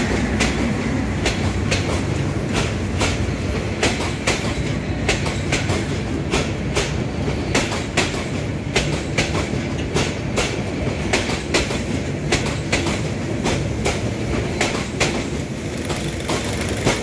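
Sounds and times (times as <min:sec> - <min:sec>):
clickety-clack over rail joints: 0:00.0 - 0:17.0
train wheels rumbling on rail: 0:00.0 - 0:17.0.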